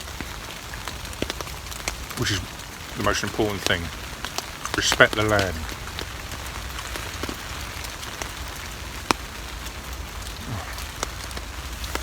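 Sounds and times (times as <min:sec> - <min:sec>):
rain pattering on a tarp: 0:00.0 - 0:12.0.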